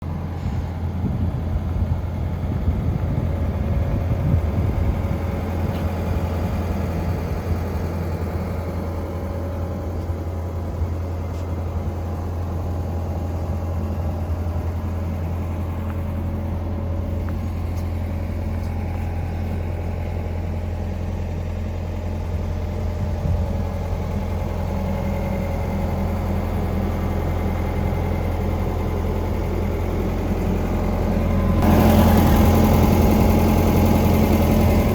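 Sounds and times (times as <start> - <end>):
excavator diesel engine idling: 0.0 - 34.9.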